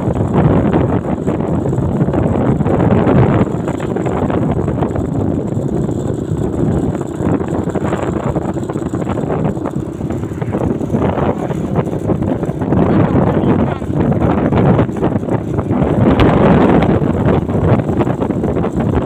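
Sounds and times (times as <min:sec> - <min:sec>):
moving vehicle running noise: 0:00.0 - 0:19.0
wind buffeting microphone: 0:00.0 - 0:19.0.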